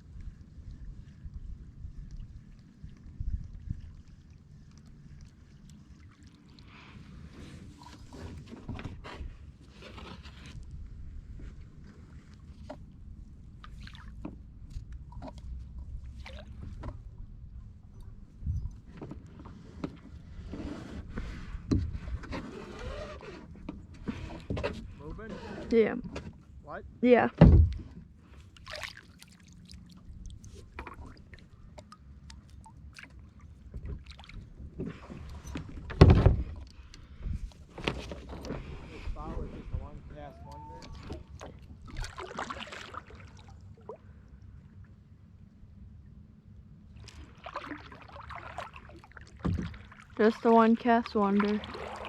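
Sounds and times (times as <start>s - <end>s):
low steady rumble: 0.0s - 7.9s, 10.5s - 18.9s, 24.8s - 37.8s, 38.5s - 52.0s
paddle splashes and drips: 0.0s - 10.8s, 11.4s - 20.5s, 27.7s - 45.0s, 46.9s - 52.0s.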